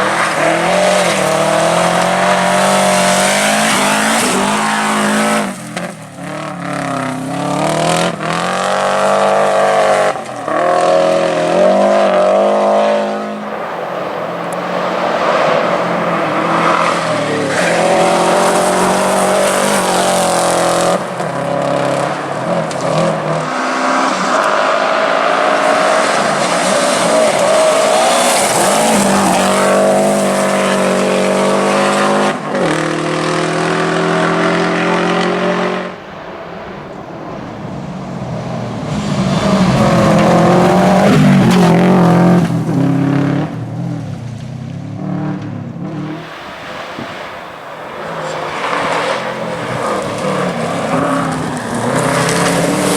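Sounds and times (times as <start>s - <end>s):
rally car engine driven hard: 0.0s - 52.9s.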